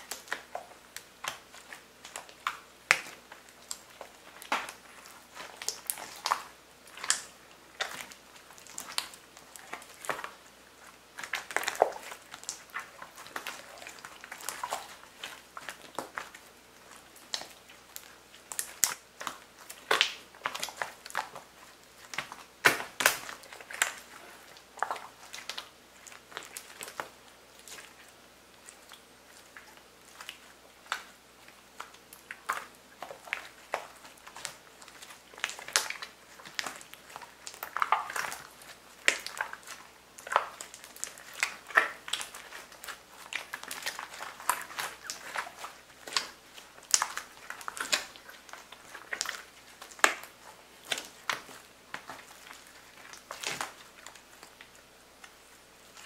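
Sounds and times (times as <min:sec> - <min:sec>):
slime squelching: 0:00.0 - 0:56.0.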